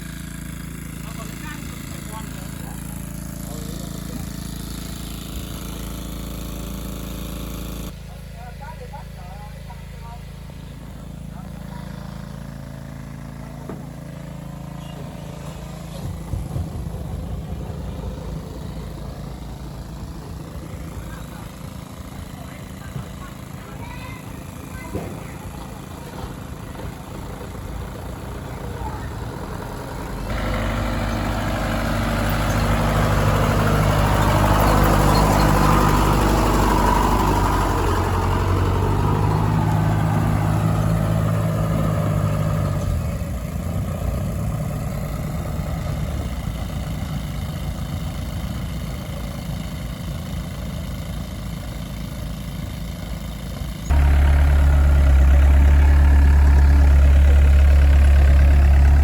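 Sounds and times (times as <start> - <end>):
engine running steadily: 0.0 - 59.0
loud deep engine: 0.0 - 59.0.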